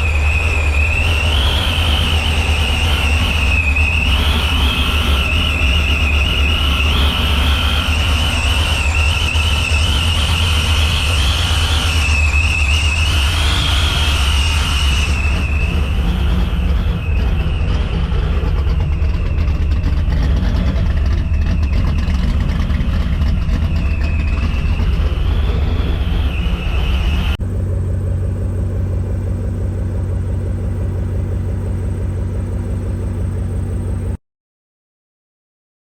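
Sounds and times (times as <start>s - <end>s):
engine low rumble: 0.0s - 34.2s
high supercharger whine: 0.0s - 34.2s.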